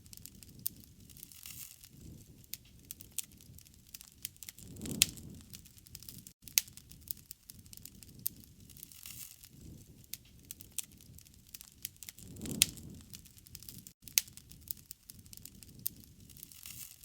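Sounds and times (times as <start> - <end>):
campfire crackling: 0.0 - 17.0
low rumble of flame: 0.0 - 17.0
sharp pops of fire: 0.1 - 17.0.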